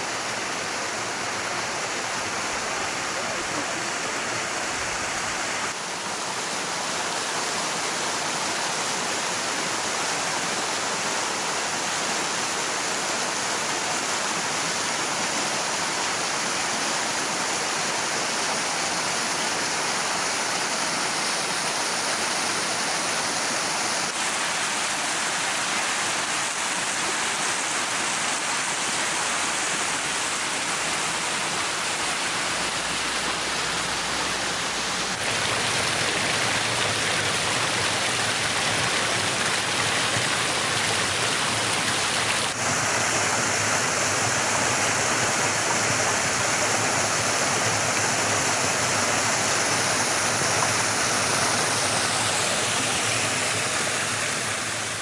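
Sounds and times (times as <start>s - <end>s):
waterfall rushing onto stones: 0.0s - 55.0s.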